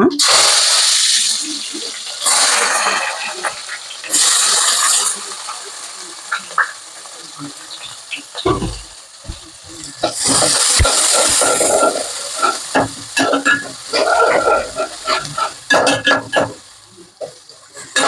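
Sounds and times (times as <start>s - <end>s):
seeds sizzling in hot oil: 0.2s - 18.0s.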